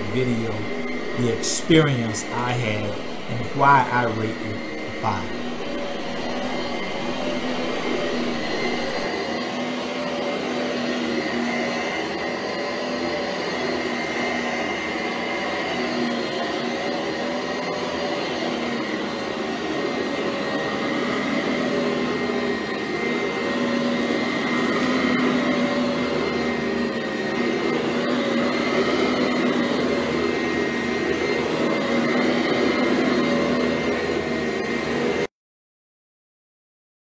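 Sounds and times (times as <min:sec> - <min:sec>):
upright vacuum cleaner running: 0:00.0 - 0:35.3.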